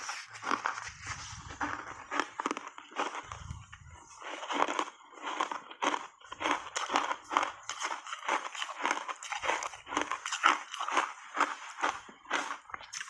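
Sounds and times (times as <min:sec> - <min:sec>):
ice being chewed with crunches: 0:00.0 - 0:13.0.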